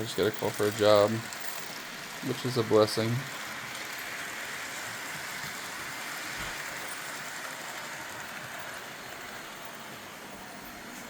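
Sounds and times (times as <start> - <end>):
model trains whirring on track: 0.0 - 11.0.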